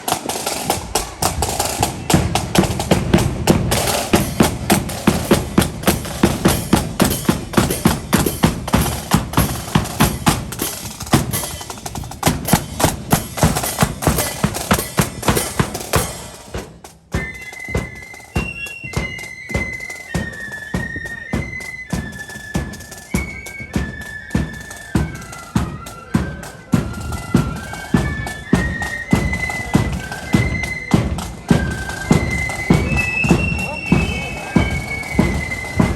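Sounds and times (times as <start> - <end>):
flutes playing melody: 0.0 - 16.3, 17.0 - 35.9
snare drum roll: 0.0 - 35.9.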